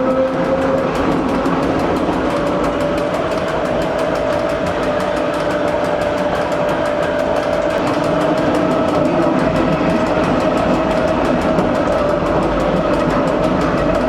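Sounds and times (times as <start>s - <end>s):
constant whine: 0.0s - 14.0s
train wheels running: 0.0s - 14.0s.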